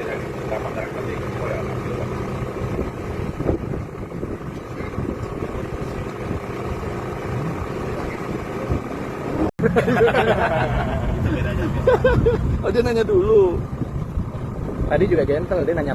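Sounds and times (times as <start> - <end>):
car engine running and revving: 0.0 - 15.9.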